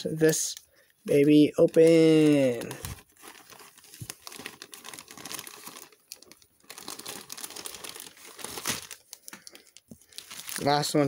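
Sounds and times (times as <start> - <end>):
plastic crinkling: 0.0 - 11.0.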